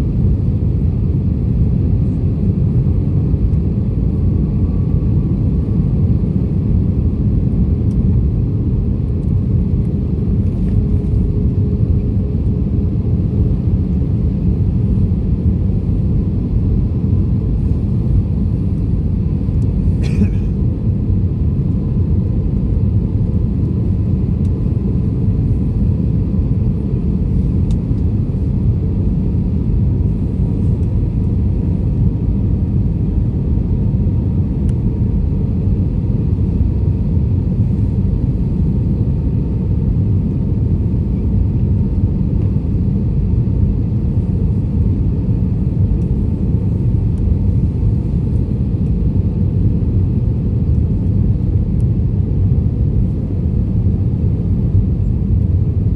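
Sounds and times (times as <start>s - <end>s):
airliner low rumble: 0.0s - 55.9s.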